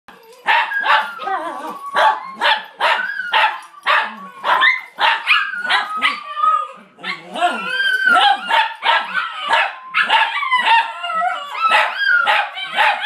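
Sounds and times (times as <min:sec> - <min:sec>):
dogs howling: 0:00.1 - 0:13.0
dogs yapping barks: 0:00.2 - 0:06.4, 0:07.0 - 0:13.0.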